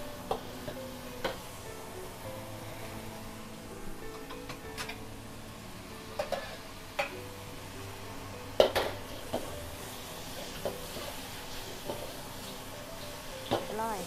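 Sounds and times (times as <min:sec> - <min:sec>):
food sizzling: 0:00.0 - 0:14.0.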